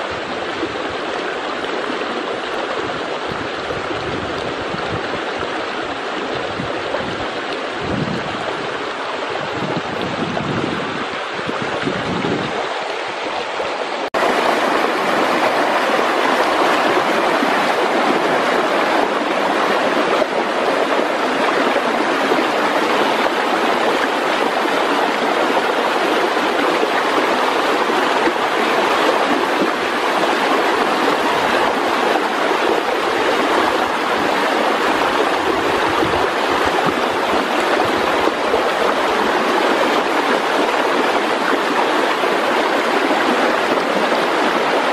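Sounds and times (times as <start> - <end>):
river water rushing over stones: 0.0 - 44.9.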